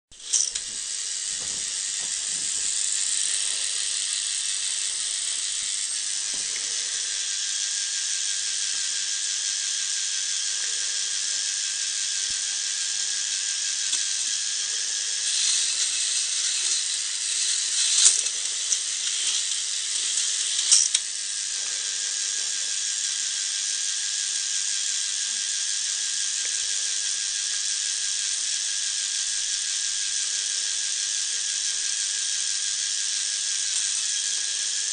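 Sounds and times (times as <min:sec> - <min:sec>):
plastic chain lift whirring and rattling: 0:00.2 - 0:34.9.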